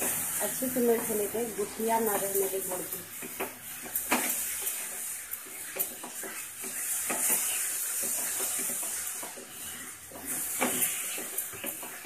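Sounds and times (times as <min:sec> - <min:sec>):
filling sizzling in a pan: 0:00.0 - 0:12.0
spatula scraping a pan: 0:00.0 - 0:12.0.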